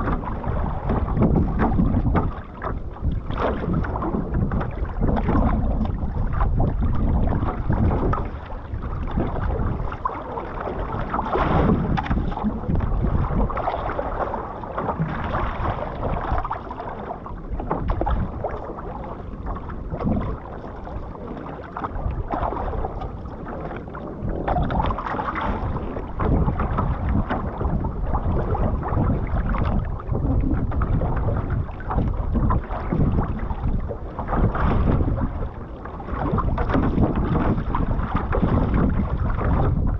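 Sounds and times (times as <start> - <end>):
paddle strokes in water: 0.0 - 39.9
water rushing along canoe hull: 0.0 - 39.9
wind buffeting microphone: 0.0 - 39.9.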